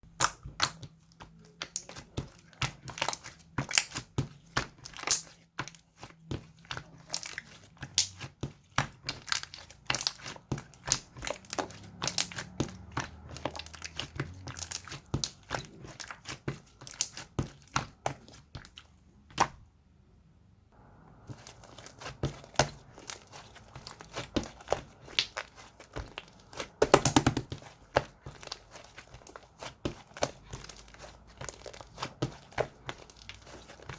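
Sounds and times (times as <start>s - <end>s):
slime squished by hand: 0.1s - 19.6s, 21.1s - 33.9s.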